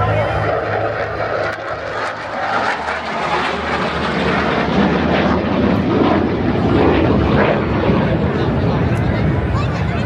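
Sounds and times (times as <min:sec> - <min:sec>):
fighter jet engine roar: 0:00.0 - 0:10.0.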